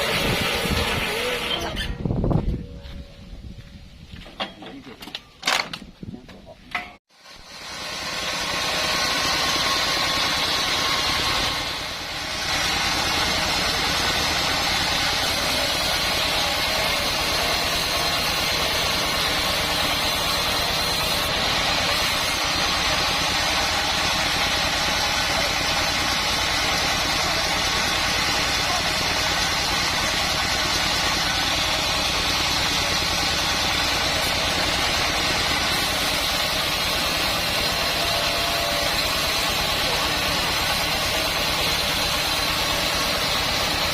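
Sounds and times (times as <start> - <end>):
high saw whine: 0.0 - 3.1, 7.3 - 43.9
band sawmill drone: 0.0 - 3.6, 7.2 - 43.9.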